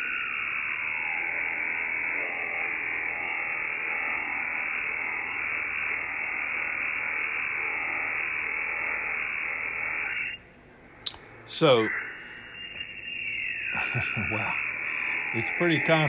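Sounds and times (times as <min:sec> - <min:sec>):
radio interference noise: 0:00.0 - 0:16.0.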